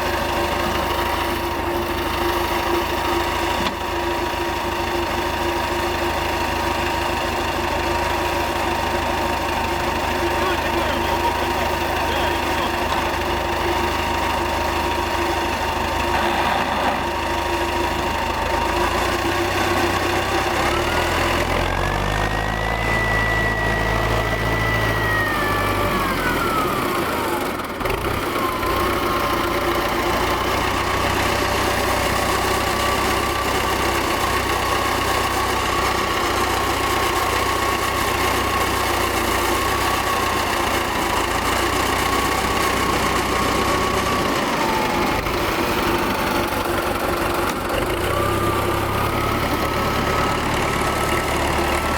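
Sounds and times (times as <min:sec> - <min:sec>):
tractor diesel engine revving: 0:00.0 - 0:51.9.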